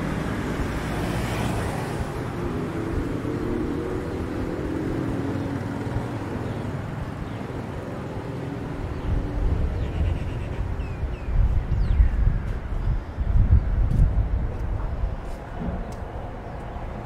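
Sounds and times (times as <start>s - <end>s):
street noise hum: 0.0s - 17.0s
wind buffeting microphone: 1.6s - 17.0s.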